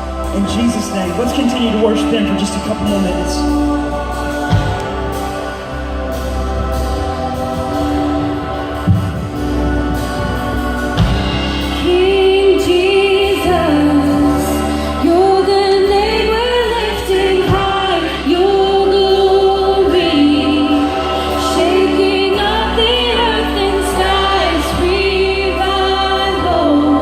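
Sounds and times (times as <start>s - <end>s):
band playing sustained chords: 0.0s - 27.0s
person singing with vibrato: 0.0s - 27.0s.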